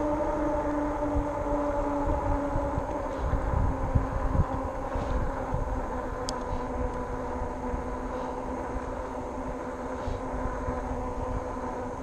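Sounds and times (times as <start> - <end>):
electric bike motor and tyre hum: 0.0 - 12.0
wind rumbling on microphone: 0.0 - 12.0.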